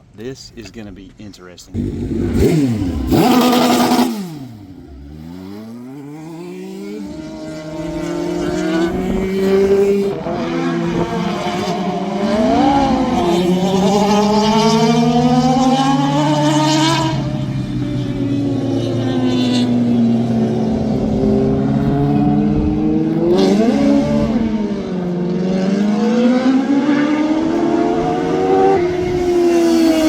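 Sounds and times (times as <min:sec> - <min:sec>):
racing engines passing: 0:01.7 - 0:30.0.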